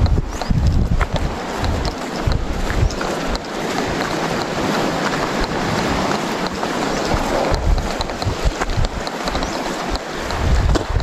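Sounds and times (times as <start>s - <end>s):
surf washing onto beach: 0.0s - 11.0s
wind on microphone: 0.0s - 11.0s.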